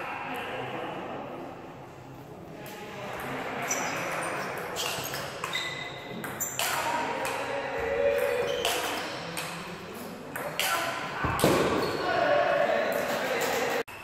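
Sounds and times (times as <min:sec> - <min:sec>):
murmur of voices: 0:00.0 - 0:13.9.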